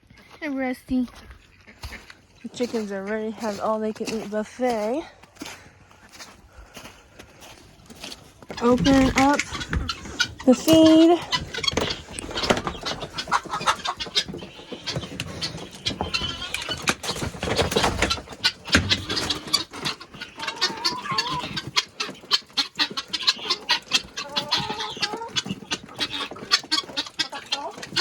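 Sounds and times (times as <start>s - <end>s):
chickens clucking: 0.1s - 28.0s
ducks and guinea fowl calling: 1.1s - 28.0s.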